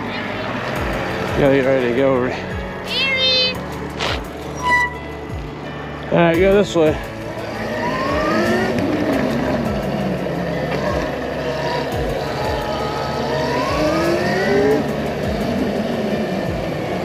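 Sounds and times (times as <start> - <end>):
wind and rolling noise: 0.0 - 17.0.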